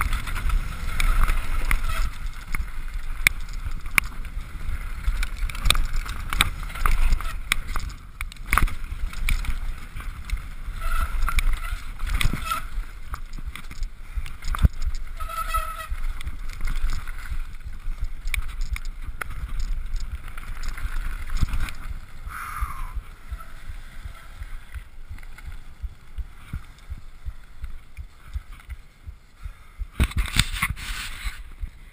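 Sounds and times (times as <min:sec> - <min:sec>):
bike rattling and clicking: 0:00.0 - 0:31.9
wind and vibration rumble: 0:00.0 - 0:31.9.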